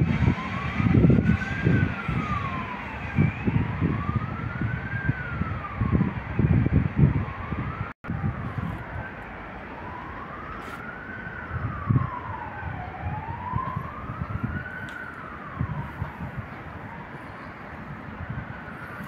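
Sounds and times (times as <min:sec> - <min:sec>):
emergency vehicle siren wailing: 0:00.0 - 0:19.0
low rumbling wind gusts: 0:00.0 - 0:19.0.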